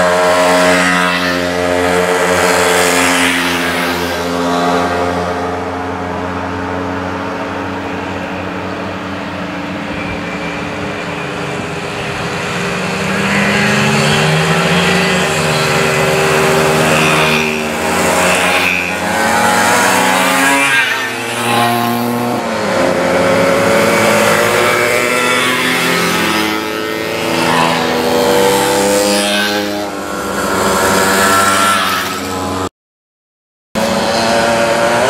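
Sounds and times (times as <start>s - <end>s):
moped engines passing: 0.0s - 32.7s.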